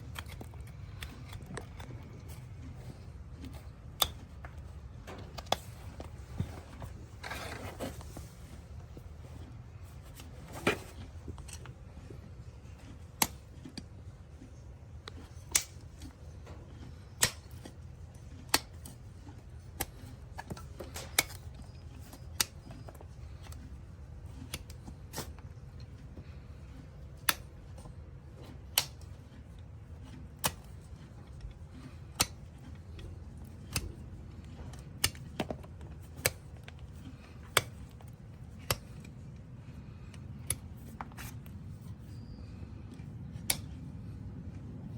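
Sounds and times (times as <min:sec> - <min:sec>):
hoof nippers snapping: 0:00.0 - 0:06.9, 0:08.0 - 0:44.9.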